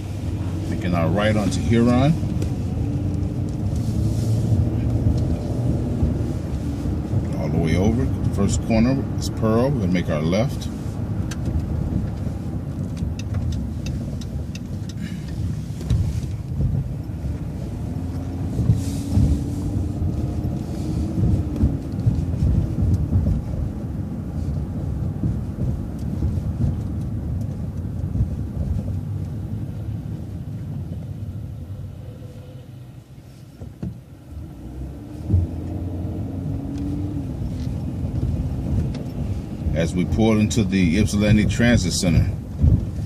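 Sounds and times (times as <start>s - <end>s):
bus engine rumble: 0.0s - 43.0s
road noise: 0.0s - 43.0s.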